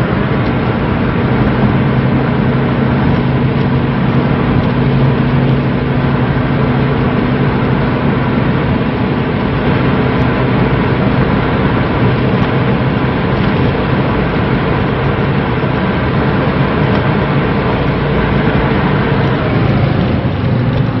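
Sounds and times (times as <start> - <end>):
diesel car engine pulling hard: 0.0 - 21.0
wind and road noise: 0.0 - 21.0.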